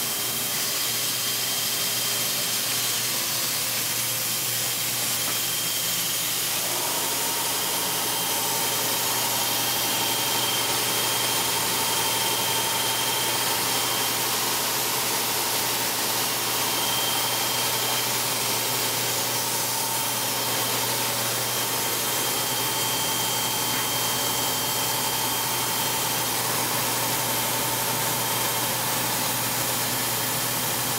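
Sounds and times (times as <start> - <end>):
high machine whine: 0.0 - 30.9
lower machine whine: 0.0 - 30.9.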